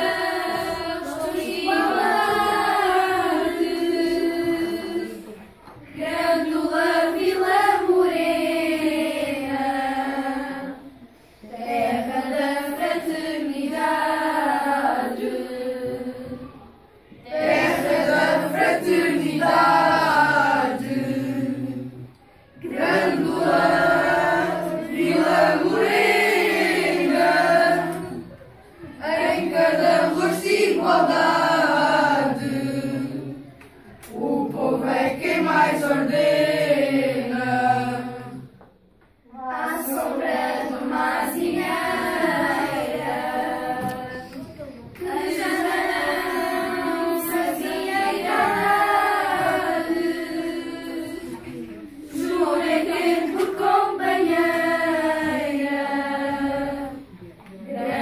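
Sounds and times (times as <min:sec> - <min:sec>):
children singing in unison: 0:00.0 - 0:38.7, 0:39.3 - 0:58.0.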